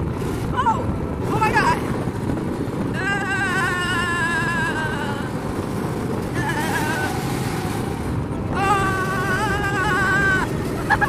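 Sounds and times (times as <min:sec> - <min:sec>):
go-kart engine: 0:00.0 - 0:11.0
wind rush: 0:00.0 - 0:11.0.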